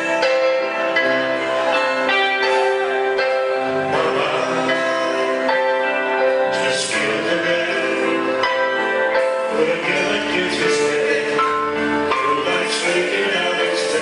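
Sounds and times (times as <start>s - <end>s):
band playing a song: 0.0s - 14.0s
man singing: 0.0s - 14.0s.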